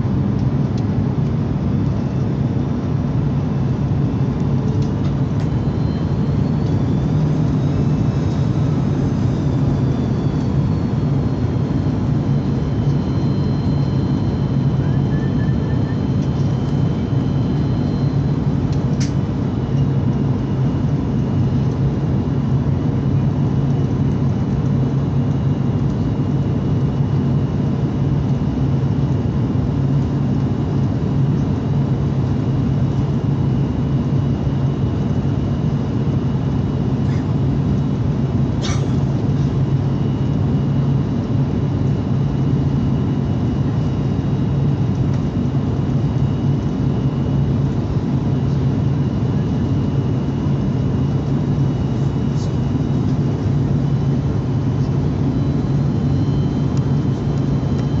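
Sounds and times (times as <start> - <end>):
aircraft cabin engine drone: 0.0 - 58.0
high engine whines: 0.0 - 58.0.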